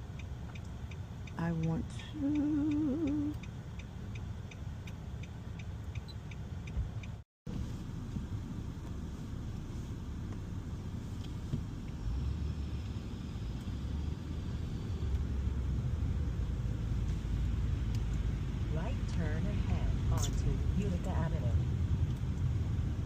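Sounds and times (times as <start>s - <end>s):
car rumble from inside cabin: 0.0s - 23.0s.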